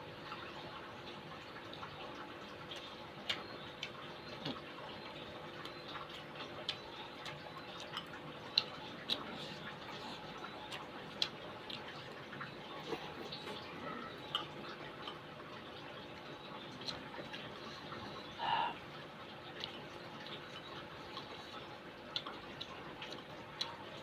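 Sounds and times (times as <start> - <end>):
chewing and eating sounds: 0.2 - 24.0.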